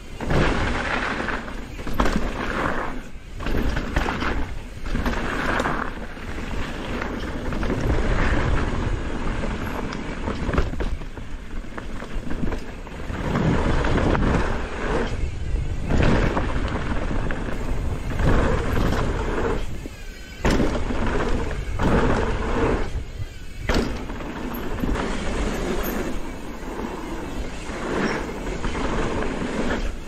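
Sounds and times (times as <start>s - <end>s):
bike rolling over trail: 0.0s - 30.0s
wind buffeting microphone: 0.0s - 30.0s.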